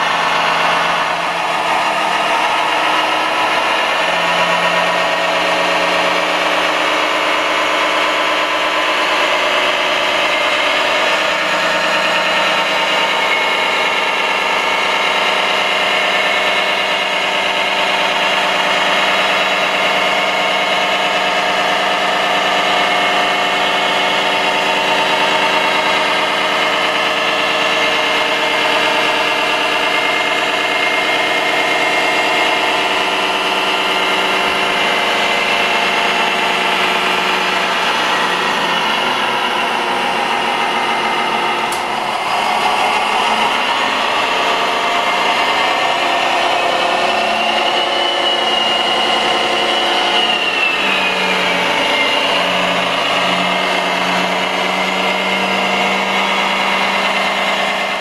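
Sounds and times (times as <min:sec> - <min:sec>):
synthesized diesel engine idling: 0:00.0 - 0:58.0.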